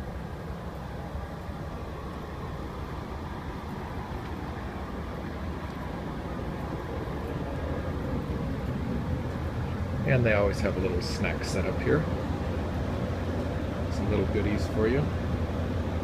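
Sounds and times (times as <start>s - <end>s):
train car interior rumble and hum: 0.0s - 16.0s.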